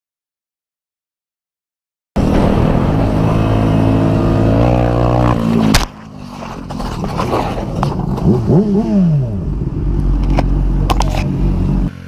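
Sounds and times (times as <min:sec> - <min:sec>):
vehicle engine accelerating: 0:02.2 - 0:12.0.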